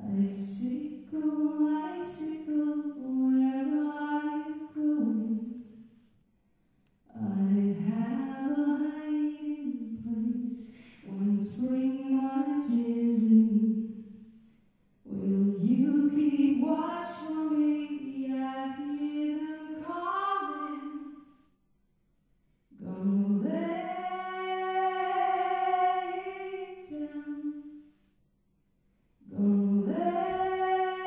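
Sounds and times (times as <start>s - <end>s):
woman singing into a microphone: 0.0s - 5.6s, 7.1s - 14.0s, 15.1s - 21.0s, 22.8s - 27.6s, 29.2s - 31.0s.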